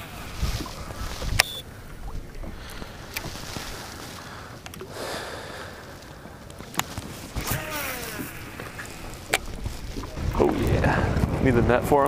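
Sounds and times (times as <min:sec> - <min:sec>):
wind buffeting microphone: 0:00.0 - 0:04.6, 0:06.2 - 0:12.0
splashing: 0:00.0 - 0:10.8
waves lapping against boat hull: 0:00.0 - 0:12.0.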